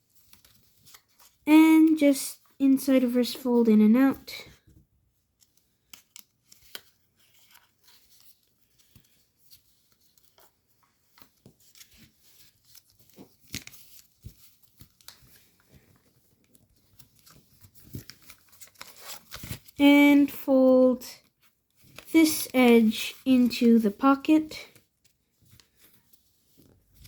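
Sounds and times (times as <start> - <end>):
paper crinkling being folded: 0.0 - 2.0, 5.3 - 20.5, 21.1 - 27.0.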